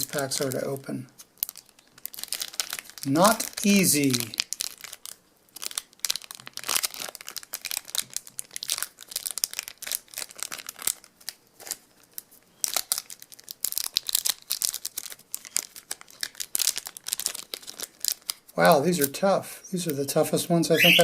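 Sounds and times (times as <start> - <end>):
wrapper crinkling and tearing: 0.0 - 0.6, 1.2 - 19.2.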